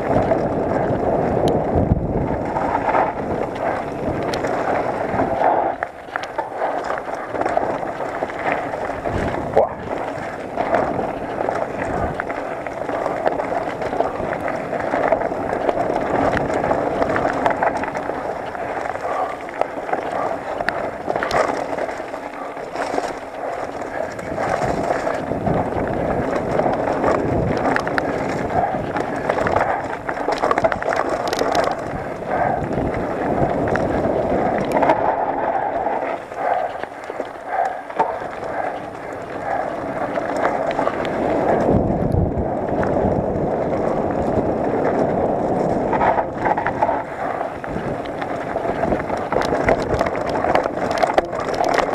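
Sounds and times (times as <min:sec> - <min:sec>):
bike rattling and knocking: 0:00.0 - 0:35.2, 0:36.0 - 0:51.9
tyres rumbling over dirt and stones: 0:00.0 - 0:51.9
wind on microphone: 0:00.0 - 0:51.9.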